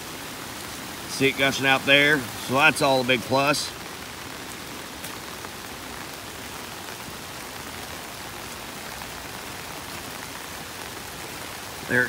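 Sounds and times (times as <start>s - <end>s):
steady rain falling: 0.0s - 12.0s
water gushing from a drainage pipe: 0.0s - 12.0s.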